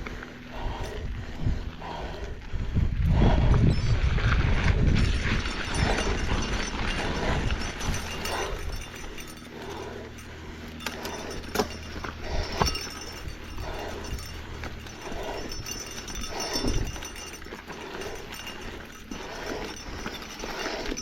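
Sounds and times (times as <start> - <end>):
person panting heavily: 0.0 - 3.8, 5.1 - 21.0
bike rolling on trail: 0.0 - 21.0
wind rumble: 0.0 - 21.0.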